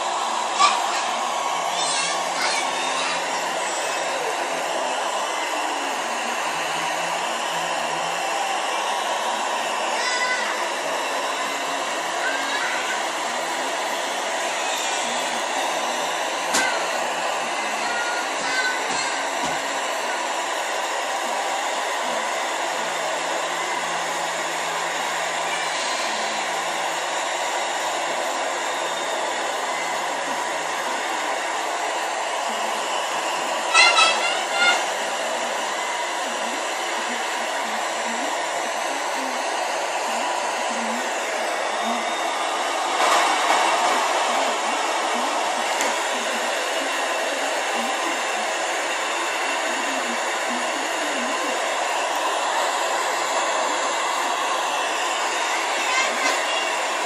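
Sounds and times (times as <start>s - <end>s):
crowd cheering: 0.0s - 50.7s, 51.5s - 57.0s.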